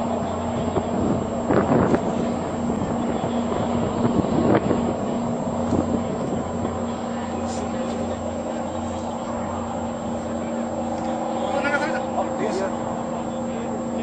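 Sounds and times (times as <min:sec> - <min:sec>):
boat engines humming: 0:00.0 - 0:14.0
wind buffeting microphone: 0:00.0 - 0:14.0.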